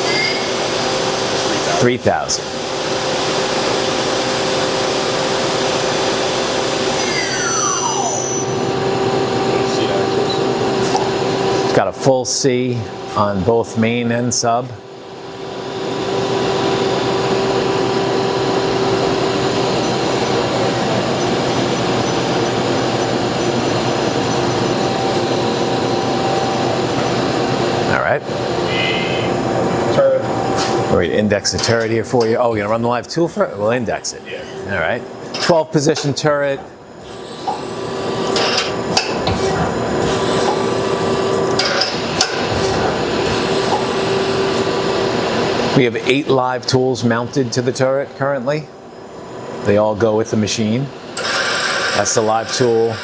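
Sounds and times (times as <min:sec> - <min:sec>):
machine spindle whirring and whining: 0:00.0 - 0:53.0.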